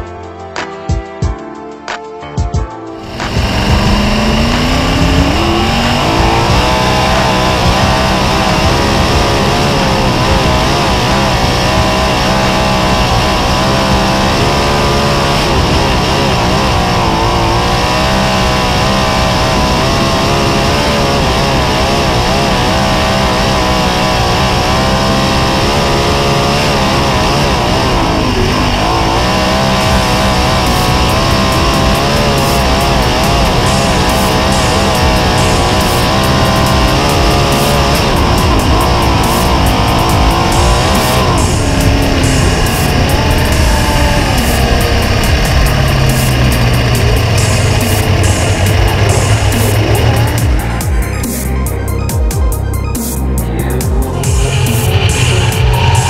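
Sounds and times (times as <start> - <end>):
racing car engine revving: 3.0 - 56.0.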